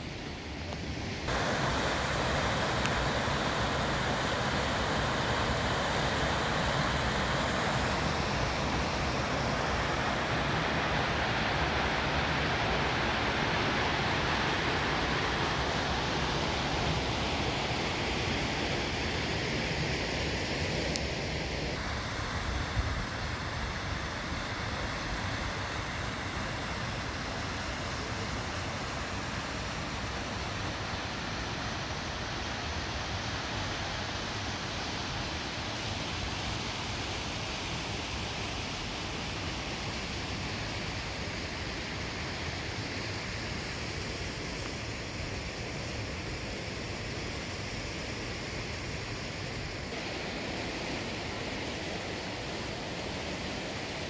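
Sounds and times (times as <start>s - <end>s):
water rushing in rocky canyon: 1.2s - 54.0s.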